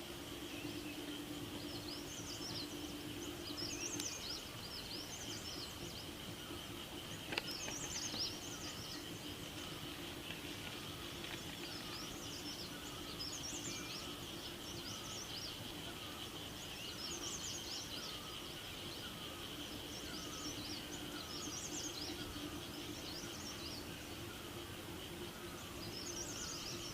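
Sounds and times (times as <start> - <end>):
bird twittering song: 0.0 - 26.9
high insect drone: 0.0 - 26.9
low steady hum: 0.0 - 26.9.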